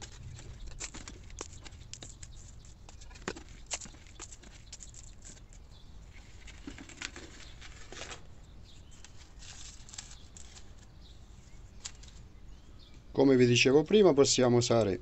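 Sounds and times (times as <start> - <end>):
soil rustling: 0.0 - 12.9.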